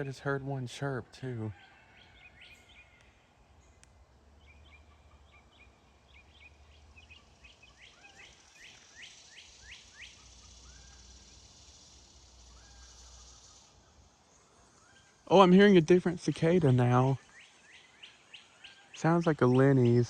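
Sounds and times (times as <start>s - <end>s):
cicada buzz: 1.5s - 20.0s.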